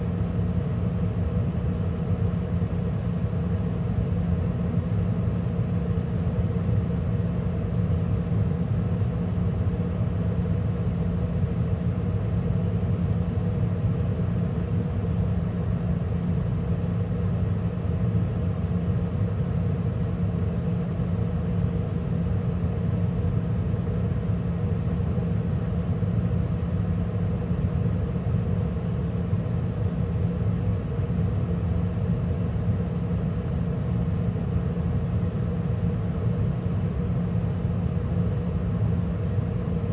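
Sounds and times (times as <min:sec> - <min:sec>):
gas furnace running: 0:00.0 - 0:39.9.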